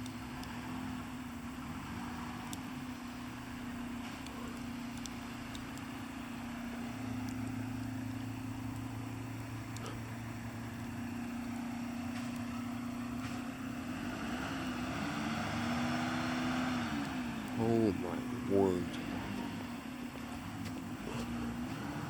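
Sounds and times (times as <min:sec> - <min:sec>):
motor engine humming: 0:00.0 - 0:22.0.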